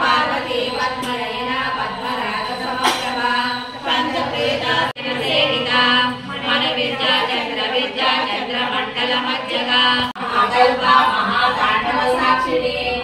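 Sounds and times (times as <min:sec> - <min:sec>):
voices singing devotional chant: 0:00.0 - 0:13.0.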